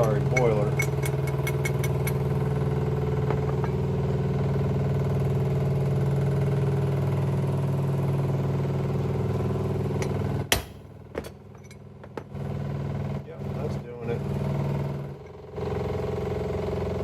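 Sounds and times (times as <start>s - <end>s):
oil pump humming: 0.0s - 17.0s.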